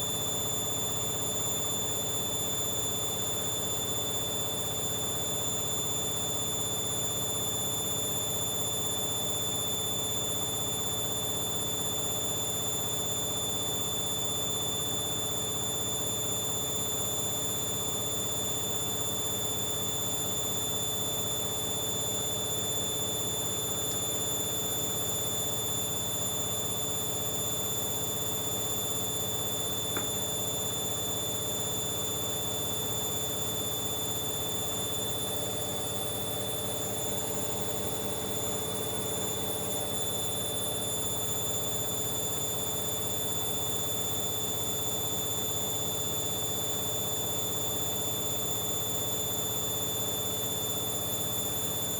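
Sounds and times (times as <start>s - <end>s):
washing machine whine and hum: 0.0s - 51.9s.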